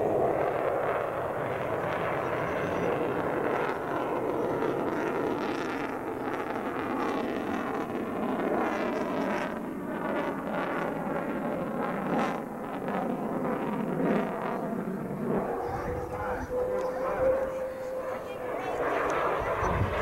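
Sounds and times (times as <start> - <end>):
military jet flying overhead: 0.0 - 20.0.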